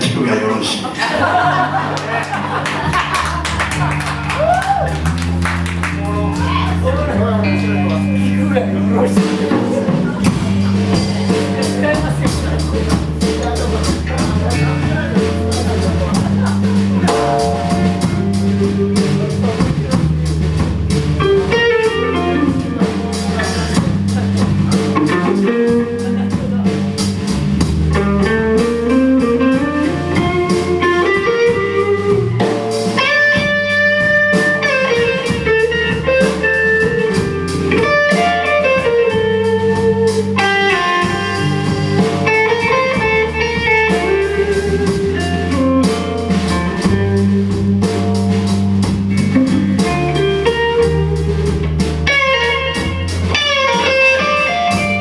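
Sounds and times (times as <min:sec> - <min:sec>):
bluesy lead guitar melody: 0:00.0 - 0:55.0
sustained low bass: 0:01.2 - 0:55.0.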